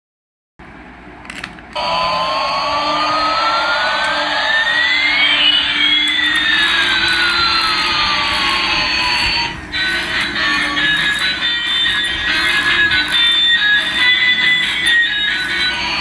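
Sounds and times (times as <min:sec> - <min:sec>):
toy jet engine sound effect: 0:01.8 - 0:16.0.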